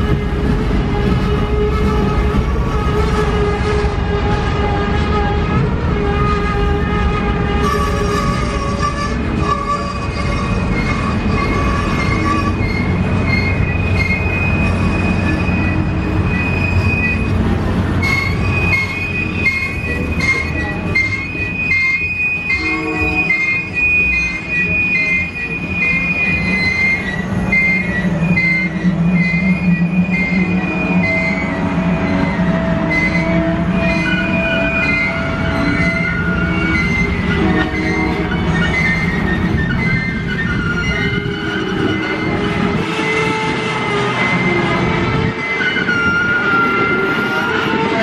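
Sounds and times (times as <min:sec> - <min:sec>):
train cars rumbling past: 0:00.0 - 0:48.0
high wheel squeal: 0:07.6 - 0:48.0.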